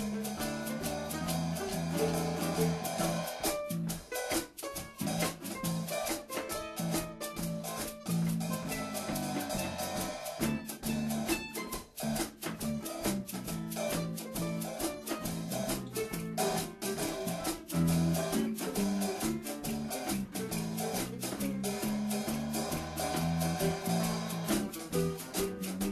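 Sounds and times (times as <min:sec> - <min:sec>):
drum beat: 0:00.0 - 0:25.9.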